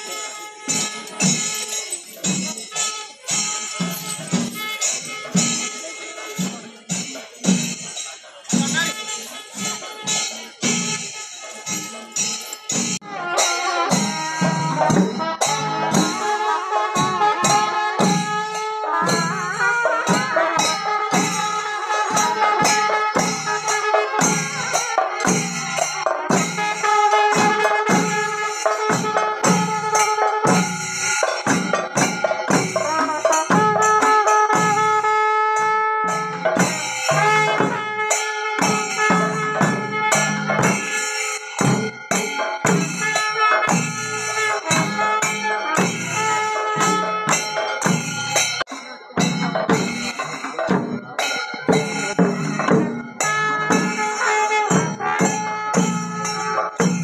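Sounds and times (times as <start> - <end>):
jingling cymbals: 0.0 - 57.0
wind instrument melody: 0.0 - 57.0
drum strokes: 0.1 - 57.0.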